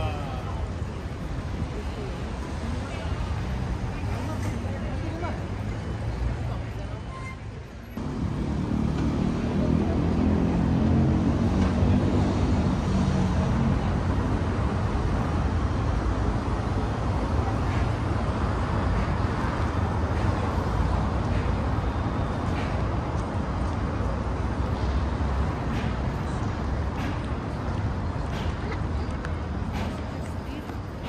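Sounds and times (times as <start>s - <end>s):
steady traffic rumble: 0.0s - 31.0s.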